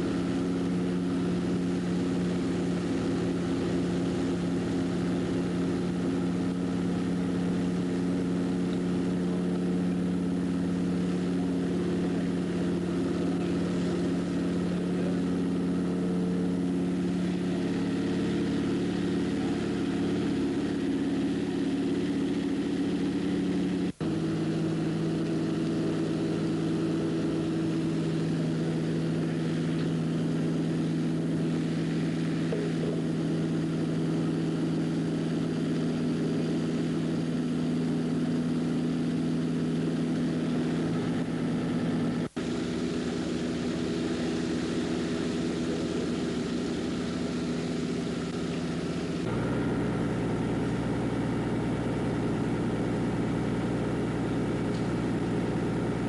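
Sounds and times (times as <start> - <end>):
fire engine pump motor humming: 0.0 - 56.0.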